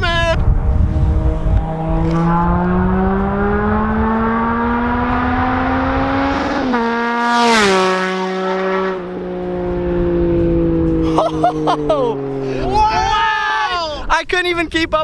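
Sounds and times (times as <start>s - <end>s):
motorcycle accelerating past: 0.5s - 12.8s.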